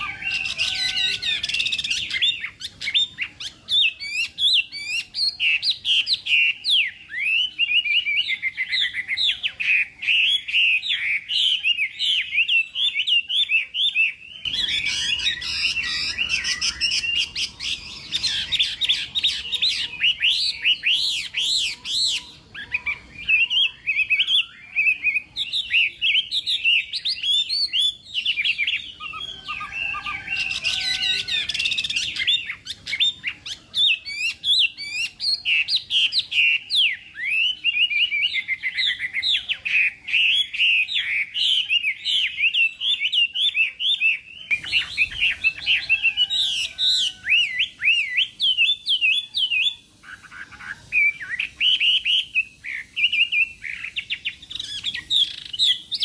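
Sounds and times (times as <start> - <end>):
bird singing whistled trills: 0.0 - 56.0.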